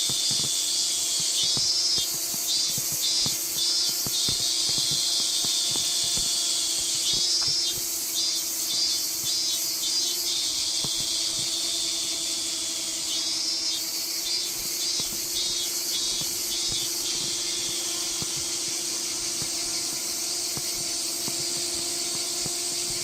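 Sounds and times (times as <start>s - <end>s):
high hiss: 0.0s - 23.0s.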